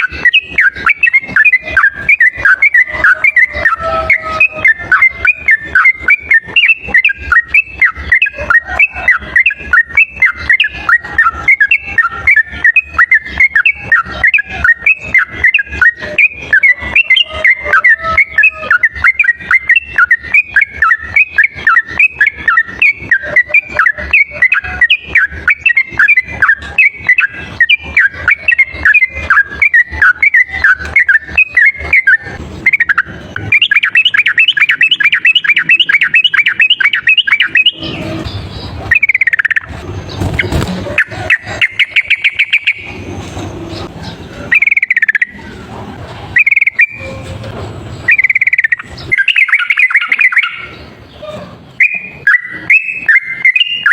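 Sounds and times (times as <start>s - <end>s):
bird singing chattering song: 0.0s - 47.3s, 47.9s - 53.9s.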